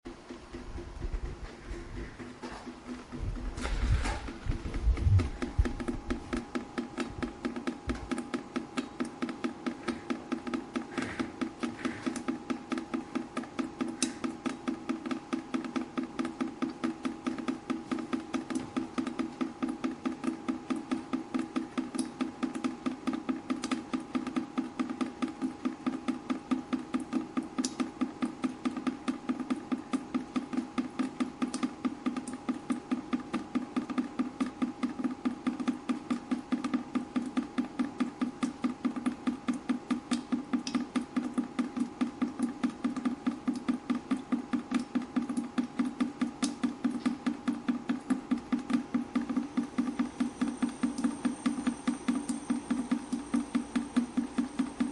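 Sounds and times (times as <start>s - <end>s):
water dripping: 2.8s - 54.9s.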